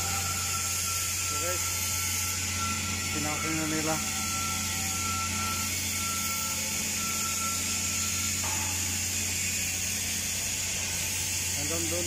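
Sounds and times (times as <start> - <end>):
faint high whine: 0.0 - 12.0
machinery low hum: 0.0 - 12.0.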